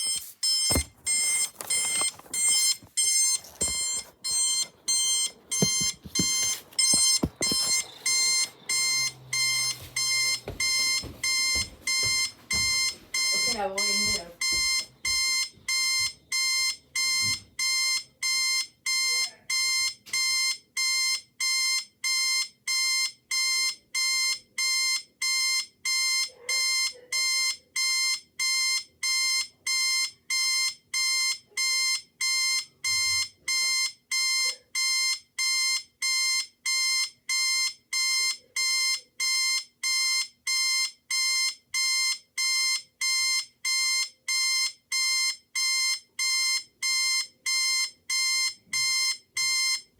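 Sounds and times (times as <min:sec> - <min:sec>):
electronic alarm beeping: 0:00.0 - 0:49.9.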